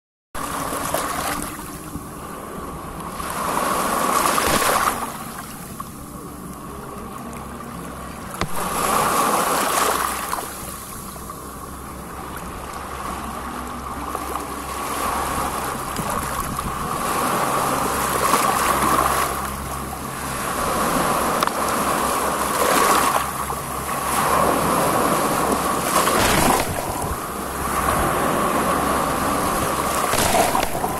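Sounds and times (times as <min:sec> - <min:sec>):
low steady hum: 0:00.4 - 0:30.9
sea waves breaking: 0:00.4 - 0:30.9.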